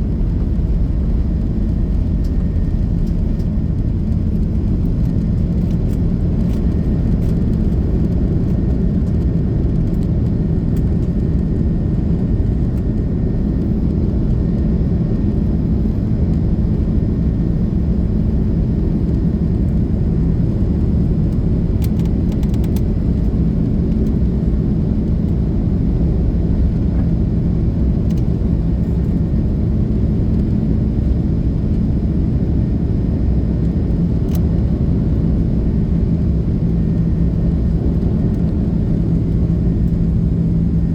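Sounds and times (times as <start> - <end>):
aircraft engine rumble in cabin: 0.0 - 40.9.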